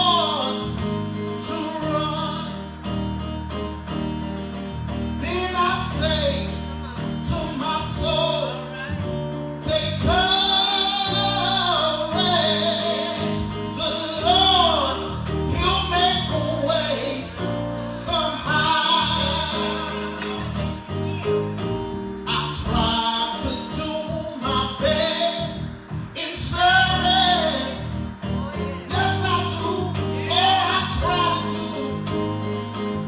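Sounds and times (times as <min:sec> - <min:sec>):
guitar: 0:00.0 - 0:33.0.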